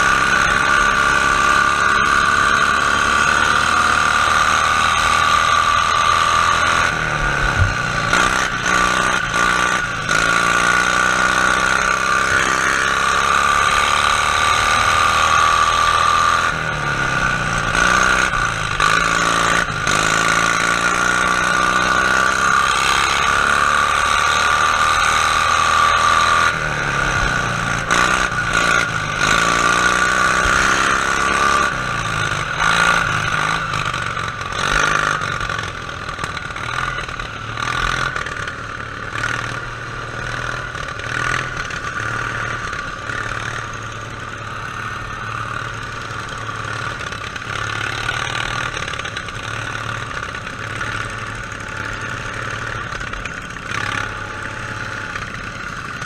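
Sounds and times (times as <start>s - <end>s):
lawn tractor engine running hard: 0.0s - 56.0s.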